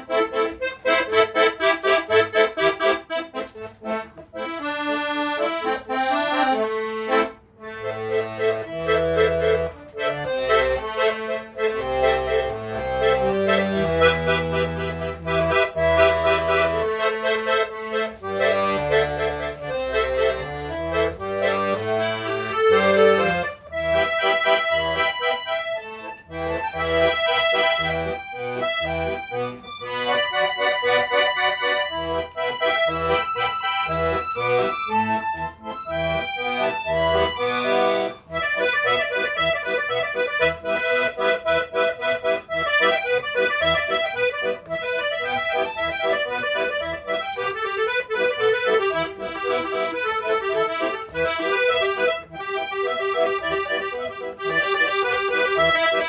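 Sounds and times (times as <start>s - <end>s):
solo accordion playing: 0.0s - 56.0s.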